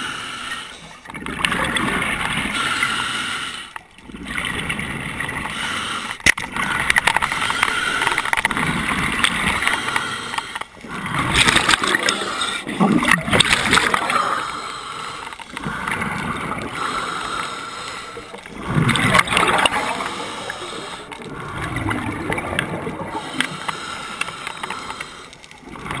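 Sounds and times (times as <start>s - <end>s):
underwater rushing and bubbling: 0.0s - 26.0s.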